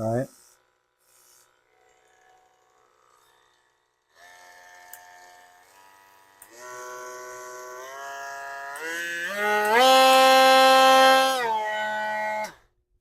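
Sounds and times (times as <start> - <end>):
multi-tool motor whine: 0.0 - 12.6.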